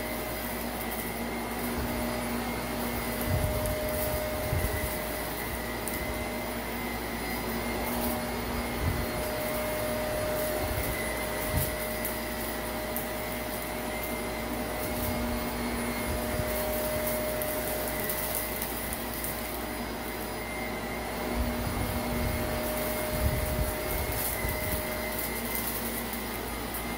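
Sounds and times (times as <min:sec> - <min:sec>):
vacuum cleaner motor whine: 0:00.0 - 0:26.9.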